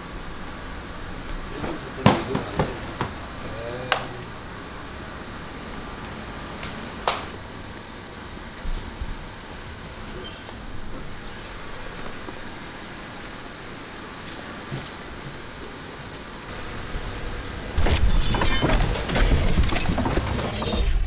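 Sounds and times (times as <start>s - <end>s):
car repair shop background noise: 0.0s - 21.0s.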